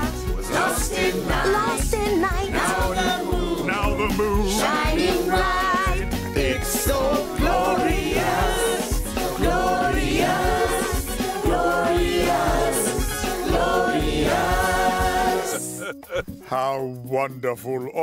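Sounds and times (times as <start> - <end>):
choir singing: 0.0 - 15.9
backing music: 0.0 - 18.0.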